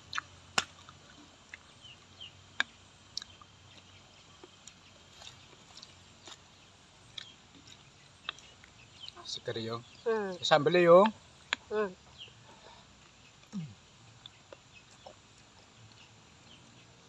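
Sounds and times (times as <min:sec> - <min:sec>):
faint chewing: 0:00.0 - 0:10.1, 0:11.0 - 0:17.0.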